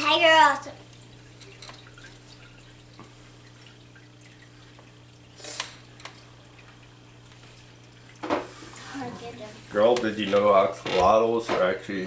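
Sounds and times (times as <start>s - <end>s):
faint water drips: 0.0s - 10.5s
aquarium equipment humming: 0.0s - 12.0s.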